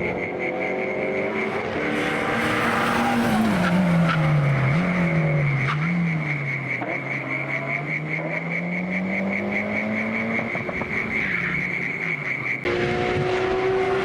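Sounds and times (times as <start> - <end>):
car engine accelerating: 0.0 - 14.0
car engine running high steady: 0.0 - 14.0.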